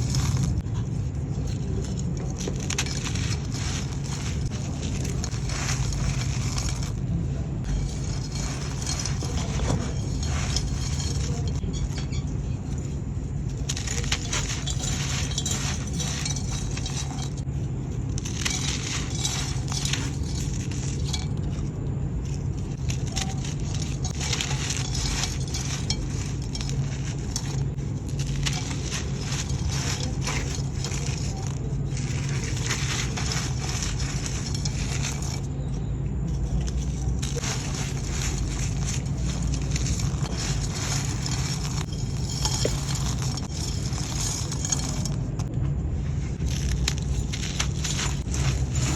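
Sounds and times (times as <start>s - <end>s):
low hum: 0.0s - 48.9s
sand-cement crumbling and crunching: 0.0s - 48.9s.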